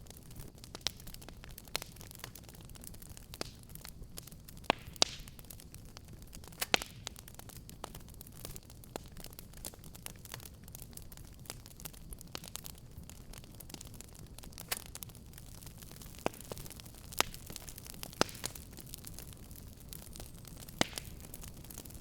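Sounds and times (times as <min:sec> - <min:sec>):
wood fire crackling: 0:00.0 - 0:22.0
fire pops: 0:00.3 - 0:07.2, 0:07.8 - 0:22.0.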